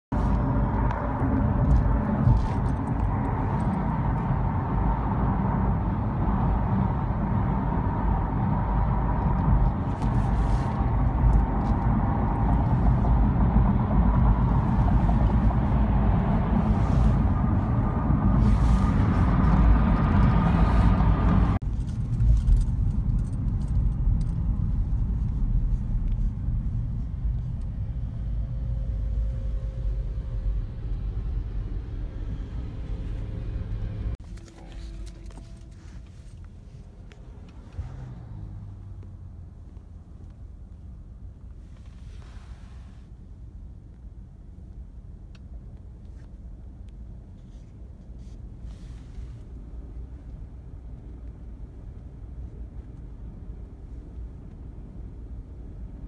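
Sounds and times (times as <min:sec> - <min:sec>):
car cabin road rumble: 0:00.1 - 0:56.0.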